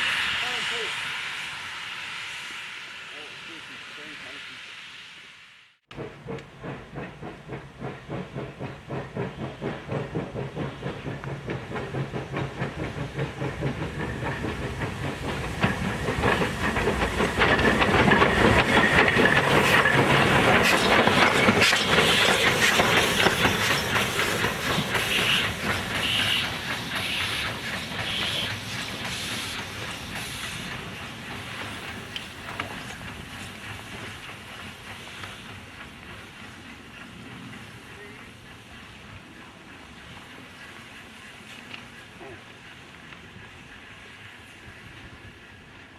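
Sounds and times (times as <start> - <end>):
steam hissing: 0.0 - 45.9
steam locomotive exhaust beats: 0.0 - 45.9.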